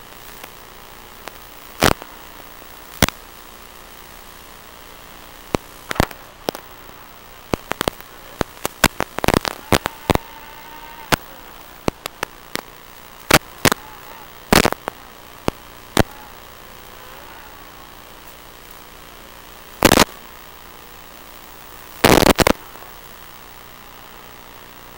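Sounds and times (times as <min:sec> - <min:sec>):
sharp crackles and pops: 0:00.0 - 0:24.9
steady static hiss: 0:00.0 - 0:24.9.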